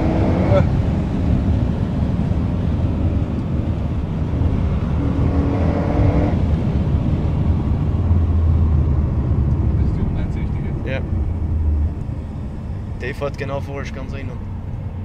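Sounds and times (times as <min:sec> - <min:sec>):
car engine at speed: 0:00.0 - 0:15.0
road rumble: 0:00.0 - 0:15.0.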